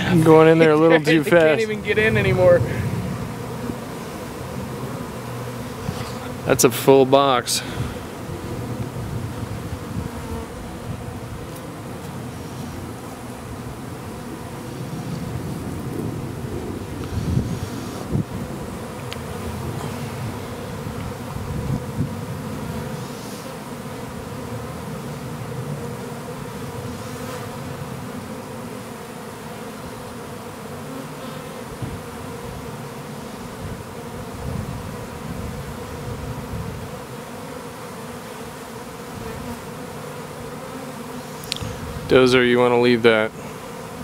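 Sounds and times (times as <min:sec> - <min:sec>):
honeybee swarm buzzing: 0:00.0 - 0:44.0.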